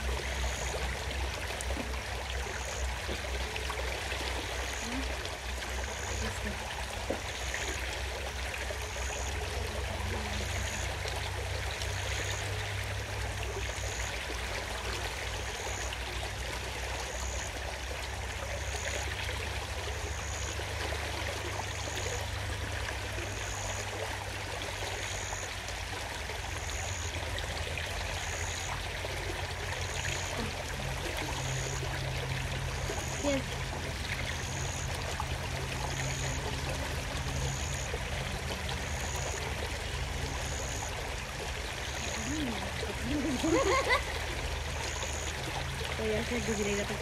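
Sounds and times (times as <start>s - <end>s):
river water running: 0.0s - 47.0s.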